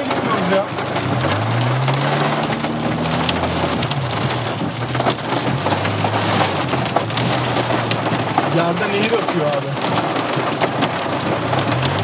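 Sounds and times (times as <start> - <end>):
heavy rain on car roof: 0.0 - 12.0.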